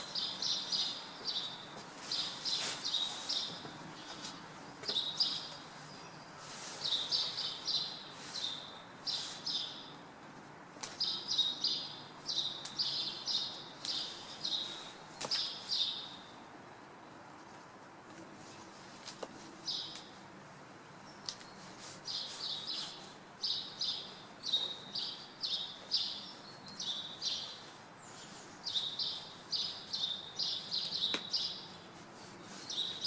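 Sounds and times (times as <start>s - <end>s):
small birds chirping: 0.0s - 10.1s, 10.8s - 16.4s, 18.4s - 20.2s, 20.9s - 33.0s.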